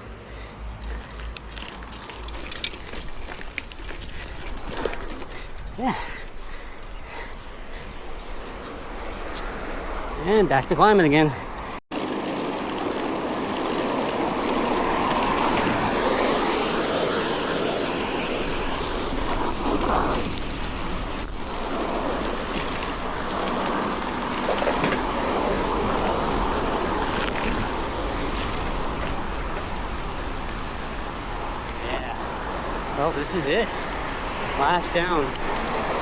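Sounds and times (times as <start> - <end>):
wind and road rushing: 0.0 - 36.0.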